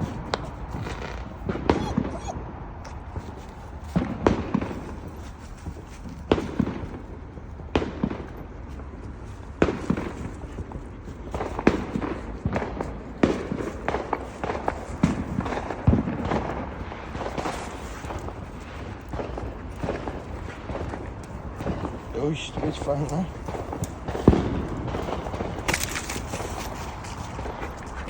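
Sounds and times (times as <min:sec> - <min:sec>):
fireworks bangs and cracks: 0:00.0 - 0:02.2, 0:03.1 - 0:27.6.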